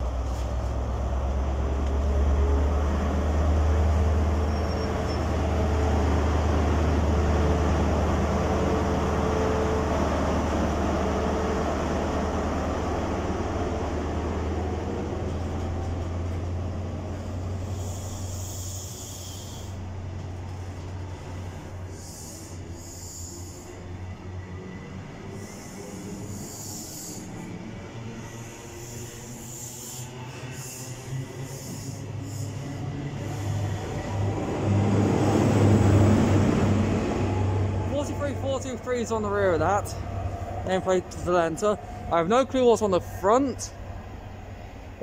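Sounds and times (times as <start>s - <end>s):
diesel train engine drone: 0.0s - 45.0s
rumble of train coaches: 0.0s - 45.0s.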